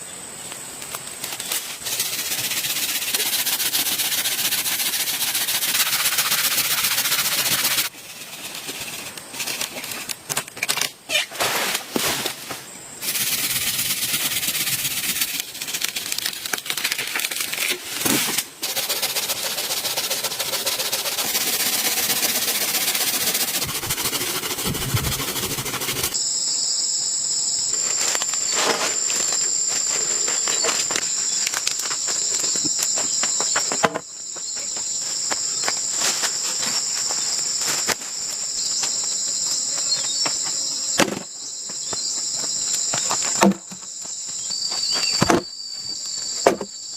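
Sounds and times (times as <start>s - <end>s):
dense steady hiss: 0.0s - 43.4s
insects chirring: 0.0s - 46.9s.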